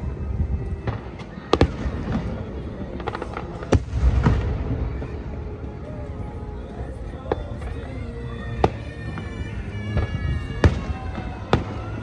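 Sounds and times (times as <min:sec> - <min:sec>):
fireworks bangs: 0:00.0 - 0:06.4, 0:07.0 - 0:12.0.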